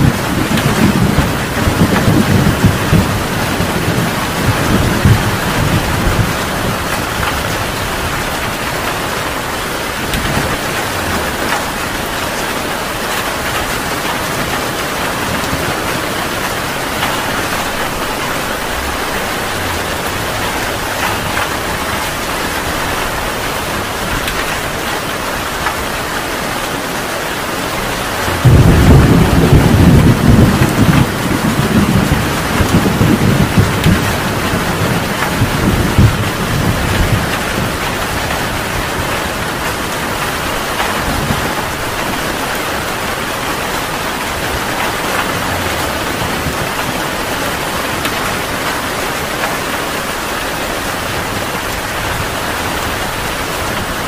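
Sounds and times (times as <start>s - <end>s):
low rumble of thunder: 0.0s - 26.0s, 27.7s - 48.7s
heavy rain falling: 0.0s - 54.0s.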